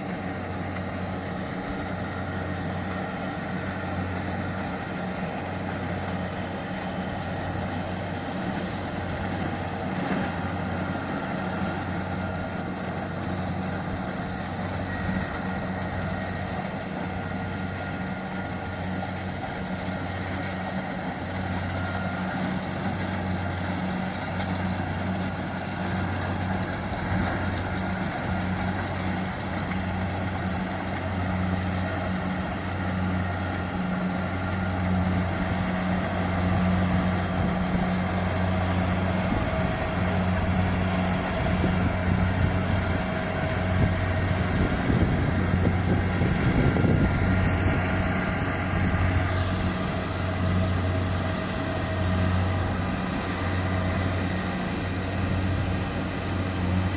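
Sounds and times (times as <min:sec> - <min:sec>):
diesel engine humming: 0:00.0 - 0:56.9.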